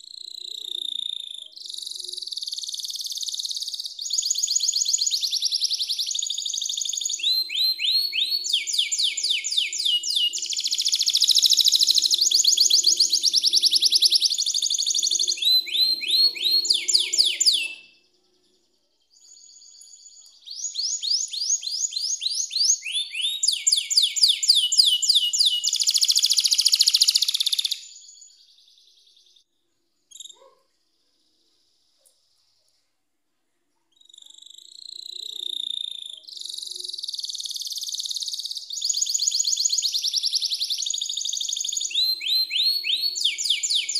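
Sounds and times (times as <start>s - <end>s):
canary singing trills: 0.0s - 29.4s, 30.1s - 30.6s, 33.9s - 43.9s.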